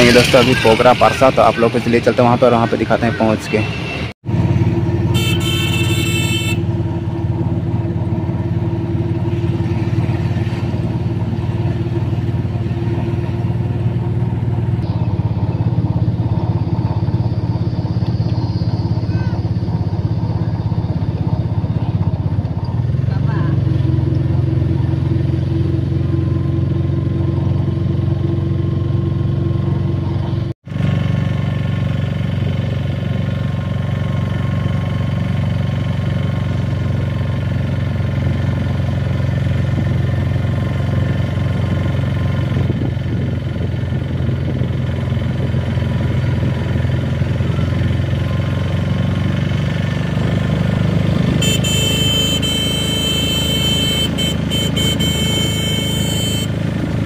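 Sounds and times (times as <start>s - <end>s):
vehicle engine running: 0.0s - 3.6s, 4.2s - 57.0s
road noise: 0.0s - 57.0s.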